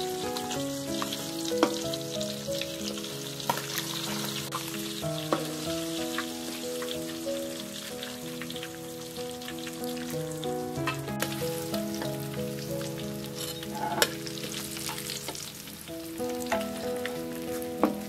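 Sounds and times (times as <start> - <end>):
food frying in hot oil: 0.0 - 18.0
soft background music chords: 0.0 - 18.0.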